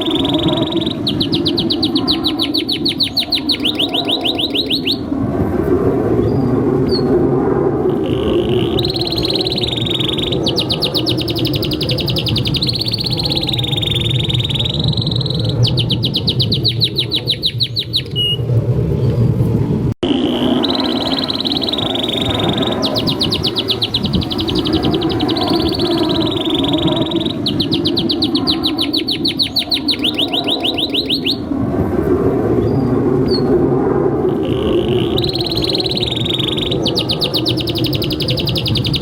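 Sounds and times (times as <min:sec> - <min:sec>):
canary singing trills: 0:00.0 - 0:05.1, 0:07.9 - 0:18.4, 0:20.0 - 0:31.5, 0:34.3 - 0:39.0
steady low rumble: 0:00.0 - 0:39.0.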